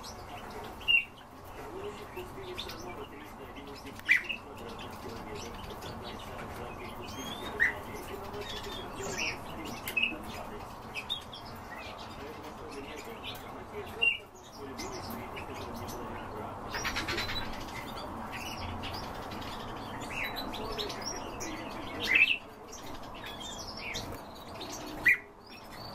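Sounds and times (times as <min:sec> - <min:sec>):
cage birds chirping: 0:00.0 - 0:25.9.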